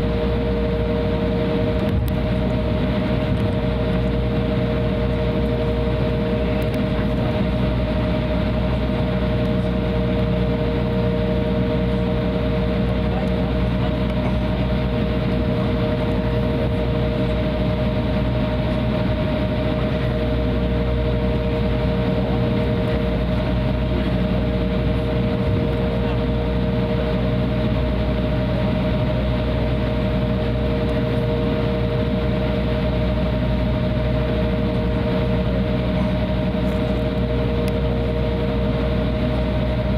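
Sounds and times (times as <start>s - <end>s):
jet engines taxiing hum: 0.0s - 39.9s.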